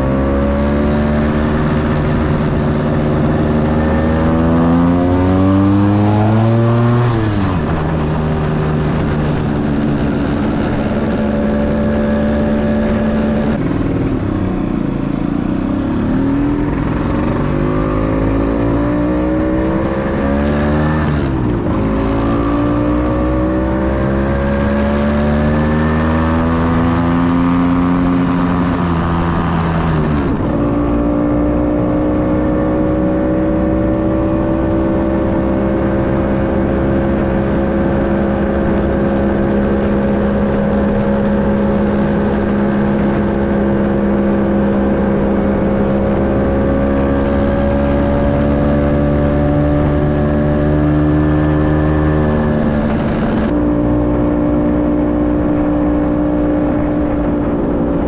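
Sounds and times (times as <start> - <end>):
scooter engine accelerating: 0.0 - 58.0.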